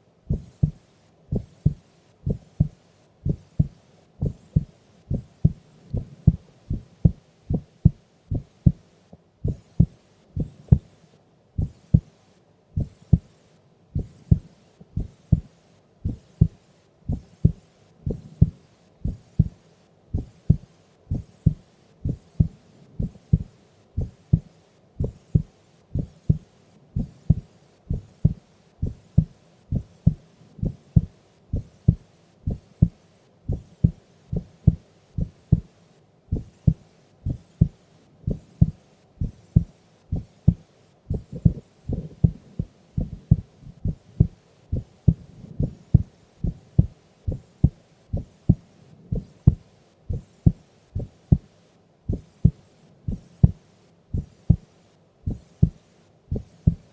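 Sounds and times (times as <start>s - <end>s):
heartbeat double thumps: 0.3s - 8.8s, 9.4s - 10.9s, 11.6s - 12.1s, 12.8s - 13.3s, 14.0s - 35.7s, 36.3s - 51.5s, 52.1s - 56.9s.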